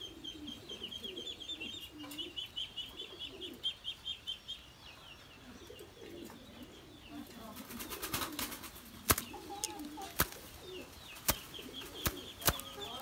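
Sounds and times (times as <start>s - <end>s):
doves cooing: 0.0s - 4.3s, 5.4s - 13.0s
bird chirping: 0.0s - 13.0s.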